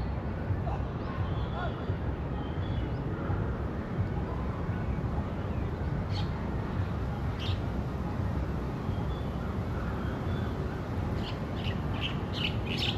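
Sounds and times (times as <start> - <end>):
distant traffic rumble: 0.0 - 12.9.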